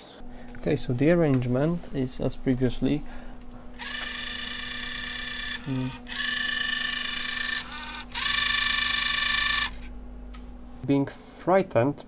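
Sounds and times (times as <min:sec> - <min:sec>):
cassette deck motor buzzing: 0:00.2 - 0:10.8.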